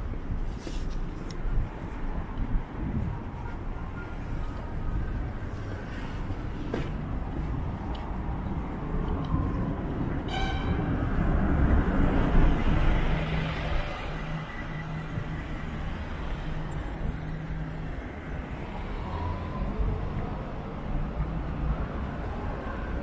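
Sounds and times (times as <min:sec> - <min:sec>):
bus engine rumble: 0:00.0 - 0:23.0
street traffic noise: 0:00.0 - 0:23.0.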